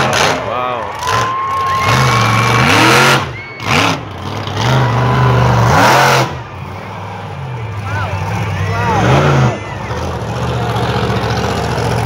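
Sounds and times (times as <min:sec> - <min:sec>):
big engine revving hard: 0:00.0 - 0:12.0.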